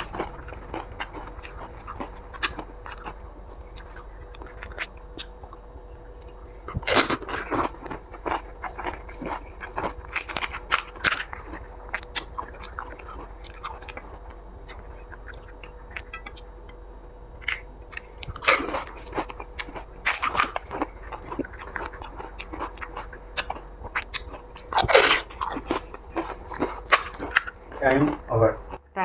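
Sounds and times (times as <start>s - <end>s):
crisp shells crunching: 0.0s - 5.6s, 6.2s - 16.5s, 17.4s - 28.8s
wet chewing: 0.0s - 28.9s
faint steady hum: 0.0s - 29.0s.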